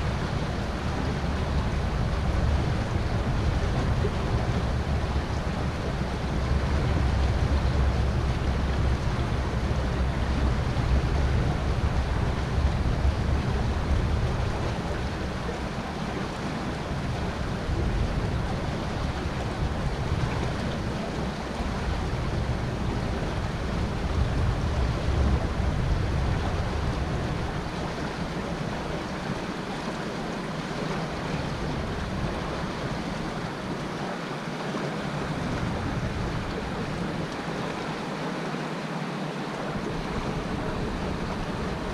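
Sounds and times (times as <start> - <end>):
river water flowing: 0.0 - 41.9
wind rumble on microphone: 0.0 - 41.9.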